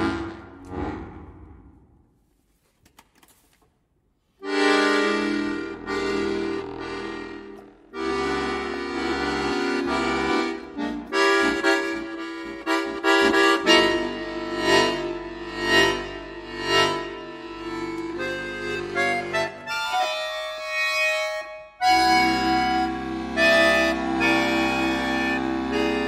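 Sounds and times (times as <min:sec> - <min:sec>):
accordion chords: 0:00.0 - 0:01.8, 0:04.4 - 0:26.0.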